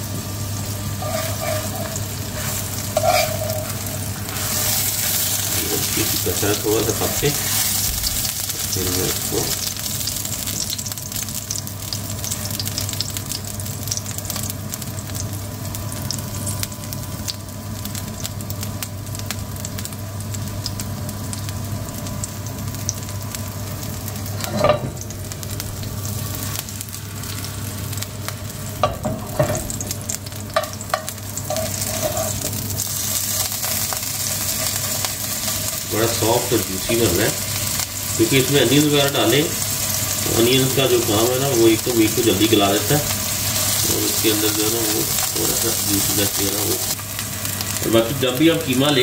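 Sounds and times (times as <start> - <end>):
meat sizzling in a frying pan: 0.0 - 49.0.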